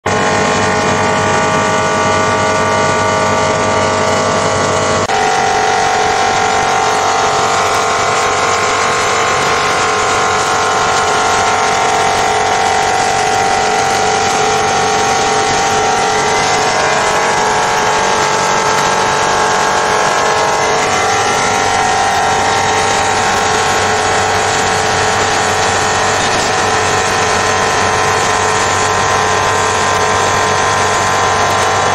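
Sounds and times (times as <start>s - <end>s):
polishing machine whine: 0.0s - 31.9s.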